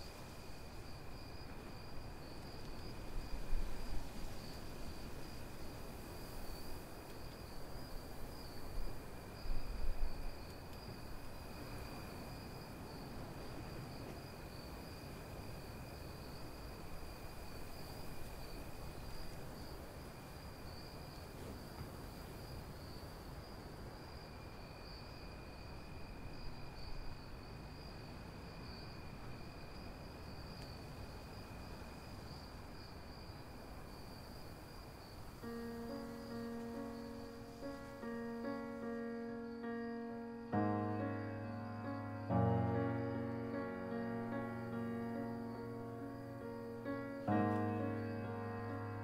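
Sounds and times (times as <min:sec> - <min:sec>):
crickets chirring: 0:00.0 - 0:49.0
faint low outdoor rumble: 0:00.0 - 0:49.0.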